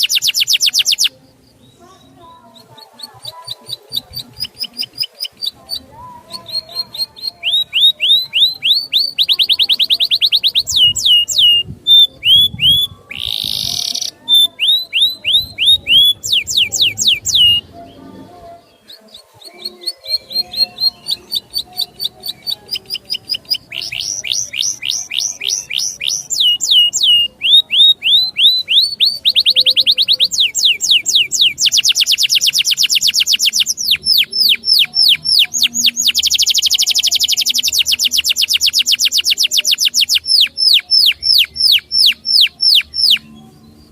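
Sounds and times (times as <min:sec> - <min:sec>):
songbird singing whistled notes: 0:00.0 - 0:43.9.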